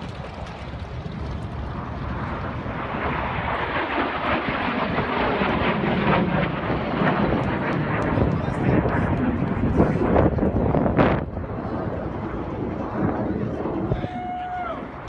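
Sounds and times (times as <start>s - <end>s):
airplane engine rushing: 0.0s - 15.0s.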